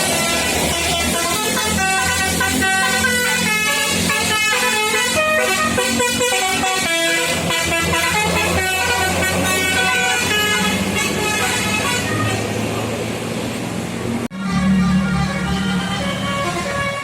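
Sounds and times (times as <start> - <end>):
horn playing a melody: 0.0 - 12.6, 14.3 - 17.0.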